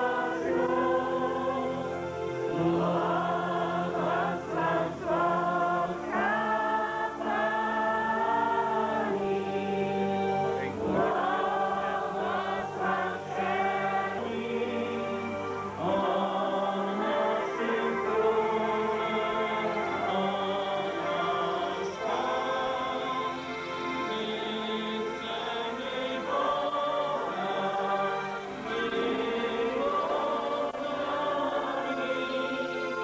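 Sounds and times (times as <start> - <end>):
group singing a hymn: 0.0 - 33.0.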